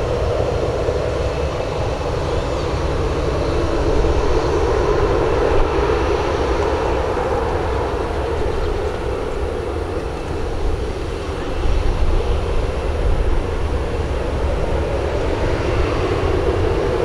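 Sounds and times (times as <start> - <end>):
jet airliner landing roll: 0.0 - 17.0.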